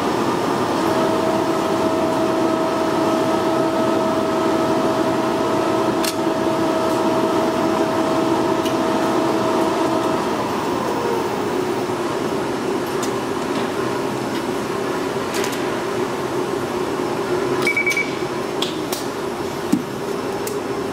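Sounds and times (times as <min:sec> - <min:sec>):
ironing machine blower hum: 0:00.0 - 0:17.6.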